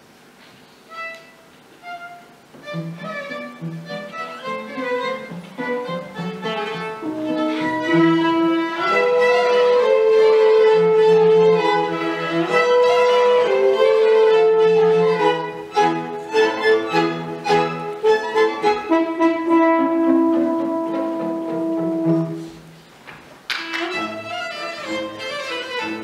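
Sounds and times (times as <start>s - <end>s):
bowed strings and horn ensemble: 0.9s - 22.9s, 23.5s - 26.0s.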